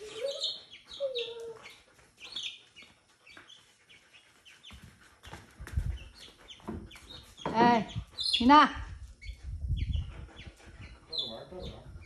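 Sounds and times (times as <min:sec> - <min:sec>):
chick peeping: 0:00.0 - 0:08.6, 0:09.2 - 0:12.0.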